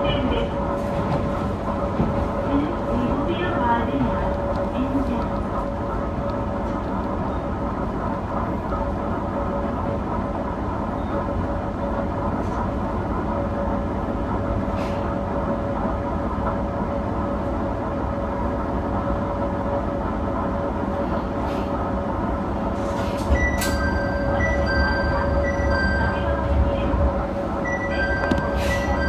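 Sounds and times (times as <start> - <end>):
wheels rumbling on rail: 0.0 - 29.0.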